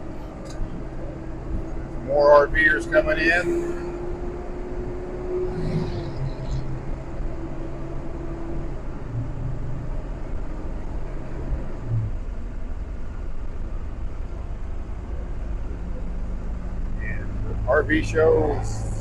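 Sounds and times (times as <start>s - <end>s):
bus engine and tyres rumble: 0.0s - 19.0s.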